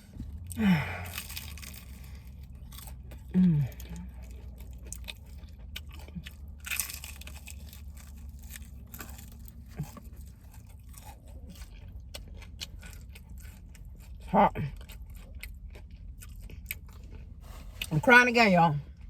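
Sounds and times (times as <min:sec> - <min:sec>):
chewing crispy chicken: 0:00.0 - 0:19.0.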